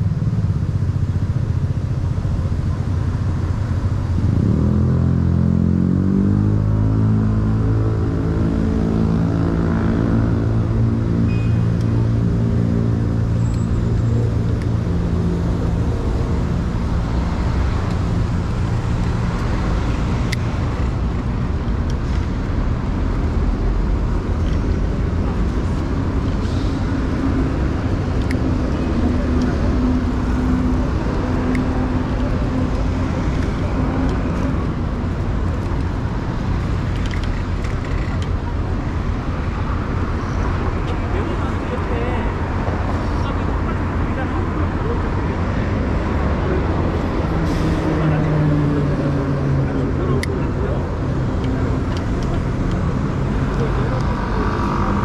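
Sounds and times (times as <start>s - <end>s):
road traffic: 0.0s - 55.0s
vehicle engine humming: 0.0s - 55.0s.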